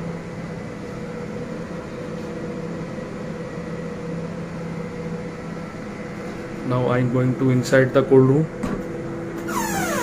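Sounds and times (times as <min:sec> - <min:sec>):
refrigeration equipment humming: 0:00.0 - 0:10.0.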